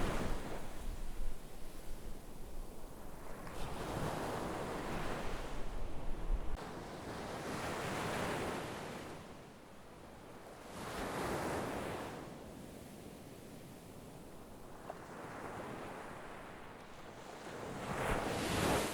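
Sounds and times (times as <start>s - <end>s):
sea waves breaking on shore: 0.0s - 9.4s, 10.6s - 12.3s, 14.6s - 18.9s.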